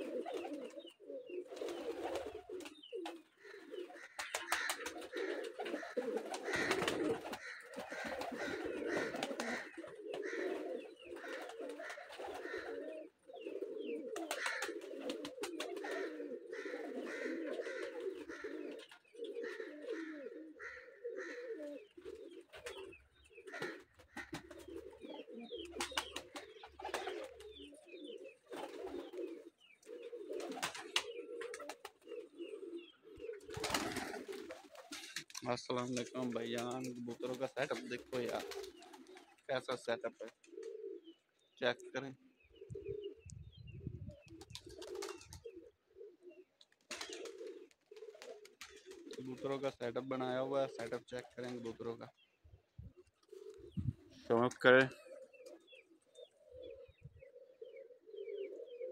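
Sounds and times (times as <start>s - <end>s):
pigeons cooing: 0.0s - 58.9s.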